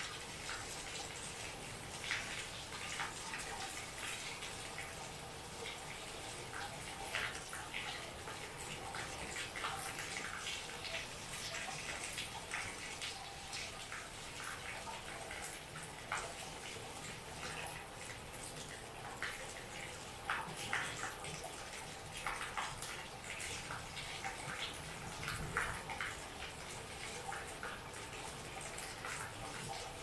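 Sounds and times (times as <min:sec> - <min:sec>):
water drips and splashes: 0:00.0 - 0:30.0.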